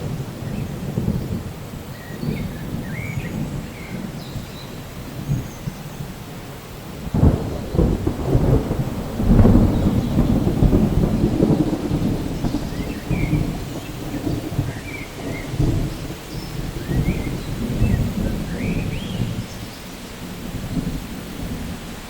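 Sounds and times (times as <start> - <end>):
rain falling: 0.0 - 22.0
rolling thunder: 0.0 - 22.0.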